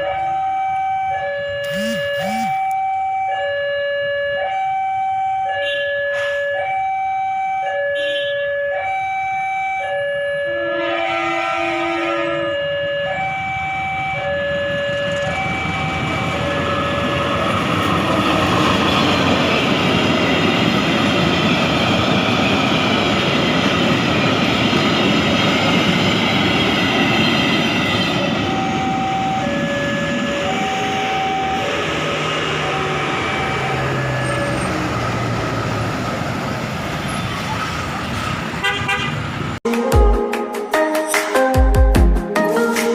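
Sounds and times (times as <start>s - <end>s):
two-tone warning alarm: 0.0s - 35.2s.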